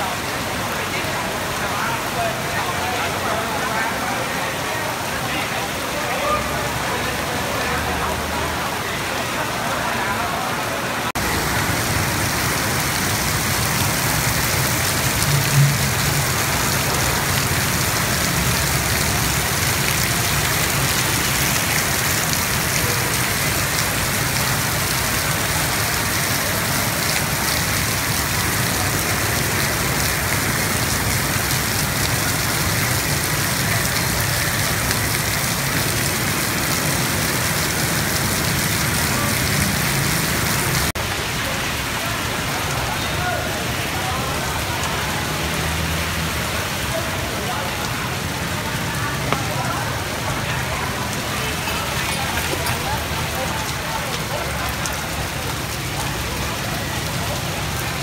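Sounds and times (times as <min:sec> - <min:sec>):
heavy rain on street: 0:00.0 - 0:58.0
motorbike traffic rumble: 0:03.9 - 0:58.0.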